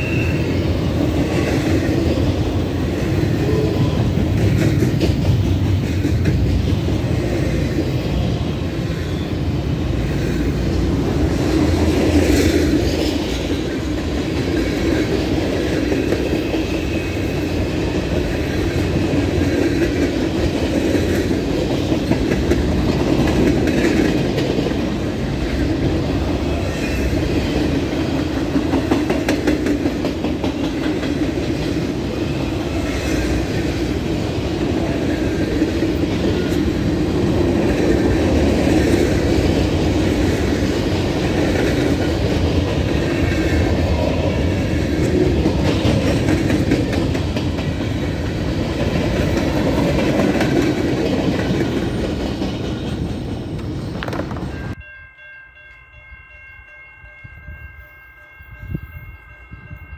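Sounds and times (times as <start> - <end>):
train wheels rumbling on rail: 0.0 - 54.8.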